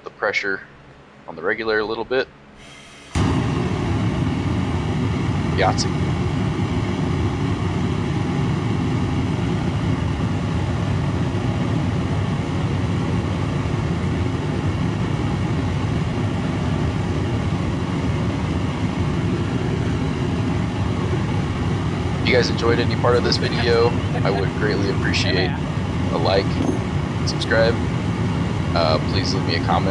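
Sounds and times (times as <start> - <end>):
propane forge burner rushing flame: 2.6 - 29.9.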